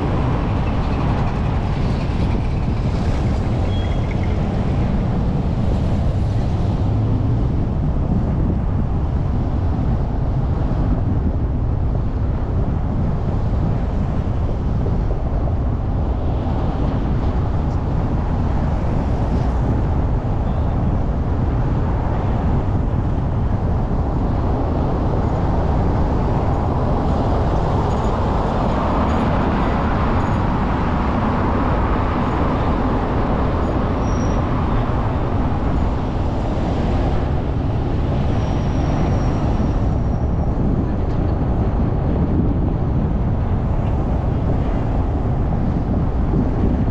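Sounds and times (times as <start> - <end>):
motorcycle road noise: 0.0 - 46.9
wind rumble: 0.0 - 46.9.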